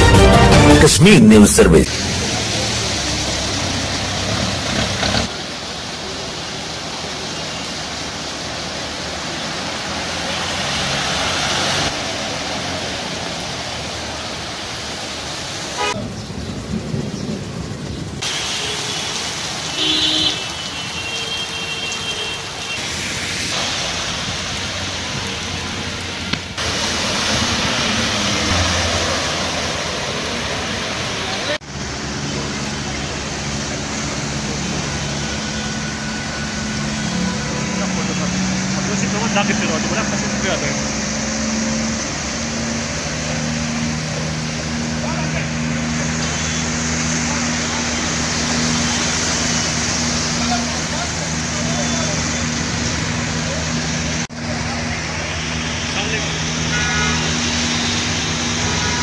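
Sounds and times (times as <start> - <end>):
vehicle engine noise: 0.8 - 20.7, 21.5 - 59.0
water splashing from tyres: 1.9 - 59.0.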